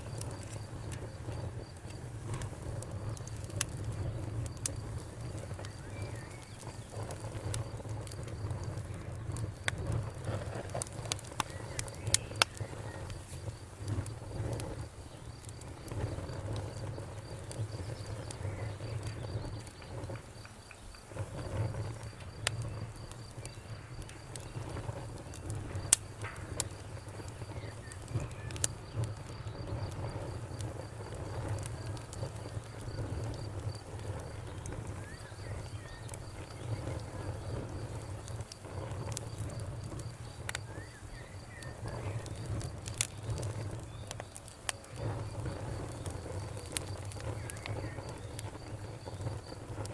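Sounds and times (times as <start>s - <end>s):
cricket chirping: 0.0s - 49.9s
wood fire crackling: 0.0s - 49.9s.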